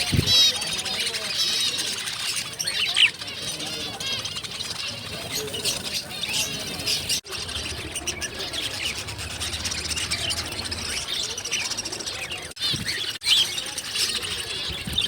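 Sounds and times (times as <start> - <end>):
cage birds chirping and twittering: 0.0 - 15.0.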